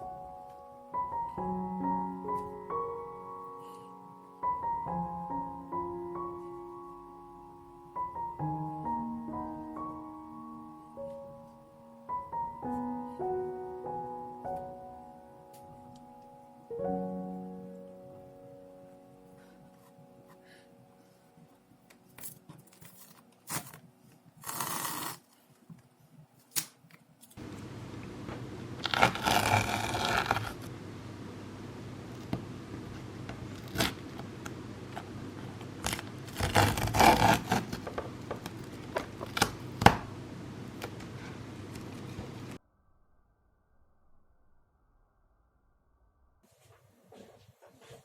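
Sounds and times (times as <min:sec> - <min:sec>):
low room hum: 0:00.0 - 0:48.0.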